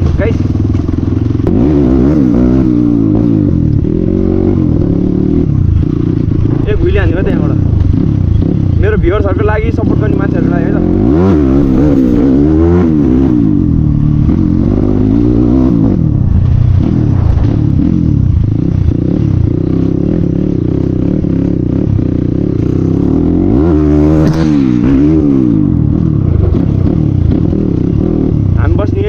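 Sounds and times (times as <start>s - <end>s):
motorcycle open exhaust revving: 0.0s - 29.0s.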